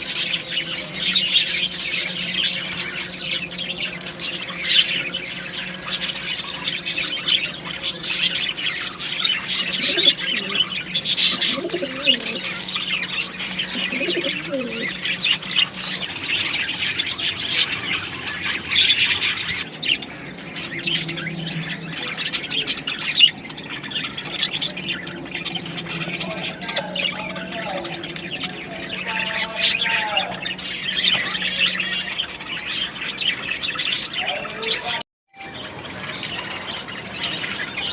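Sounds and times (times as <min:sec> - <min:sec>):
budgerigars chattering and warbling: 0:00.0 - 0:37.9.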